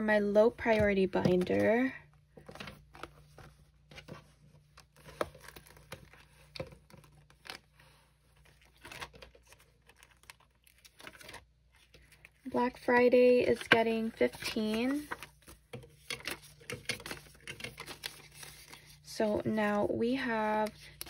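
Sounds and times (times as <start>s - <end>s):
plastic envelopes crinkling: 1.2s - 21.0s.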